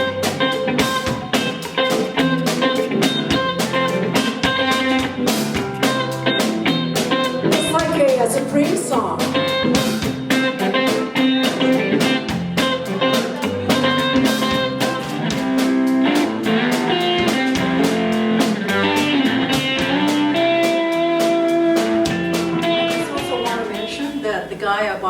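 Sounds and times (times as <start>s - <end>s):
guitar picking notes and chords: 0.0s - 24.3s.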